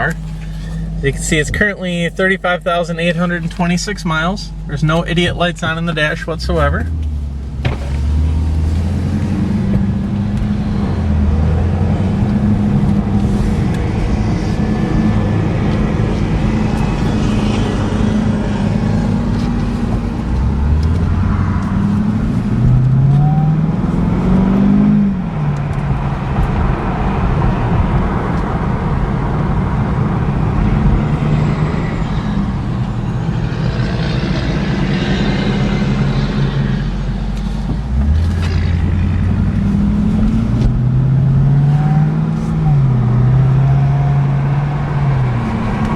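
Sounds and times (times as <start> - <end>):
car engine from inside cabin: 0.0 - 45.9
road noise: 0.0 - 45.9.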